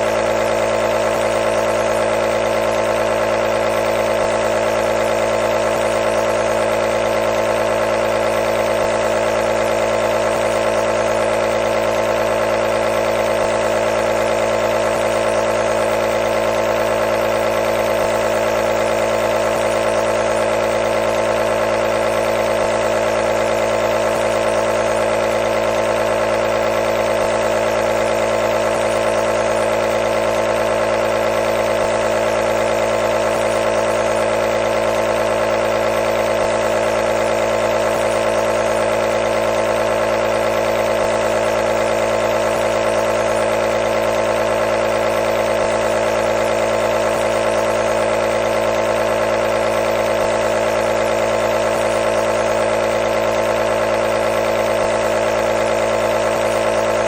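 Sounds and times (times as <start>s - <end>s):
nebulizer pump buzzing hum: 0.0s - 57.0s.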